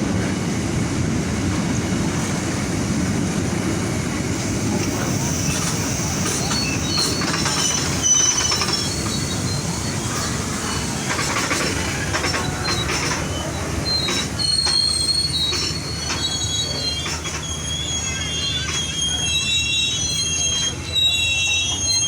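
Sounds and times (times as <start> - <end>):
train low rumble: 0.0 - 22.0
train wheels squealing on rails: 1.6 - 22.0.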